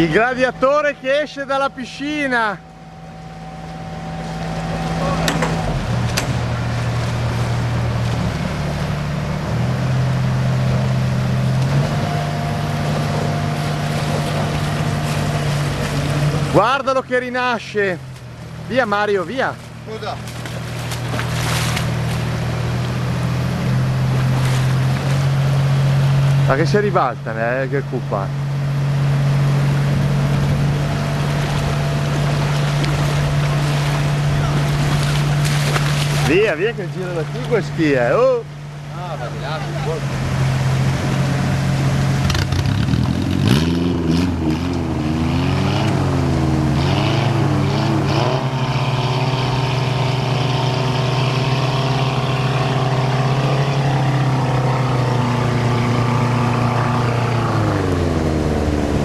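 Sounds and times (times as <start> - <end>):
heavy diesel engine revving: 0.0 - 59.0.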